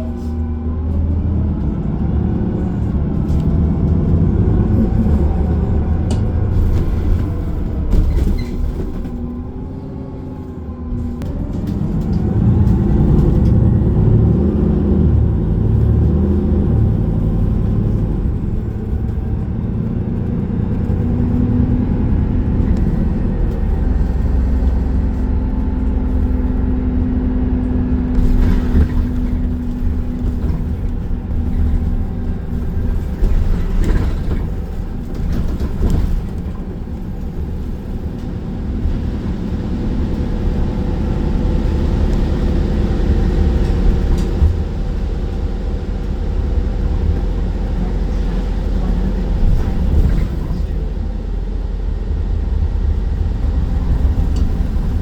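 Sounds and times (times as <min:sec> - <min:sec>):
bus engine and road drone: 0:00.0 - 0:55.0.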